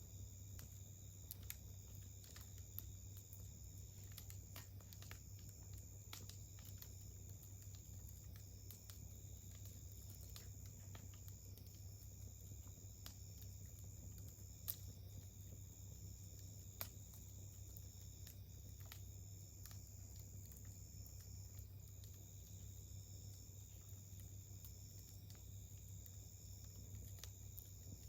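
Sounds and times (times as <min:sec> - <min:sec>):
campfire crackling: 0:00.0 - 0:28.0
sharp fire pops: 0:00.4 - 0:28.0.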